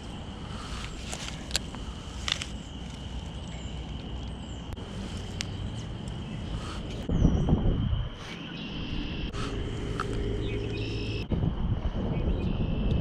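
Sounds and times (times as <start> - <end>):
steady high-pitched drone: 0.0 - 13.0
wind rumbling on microphone: 0.0 - 13.0.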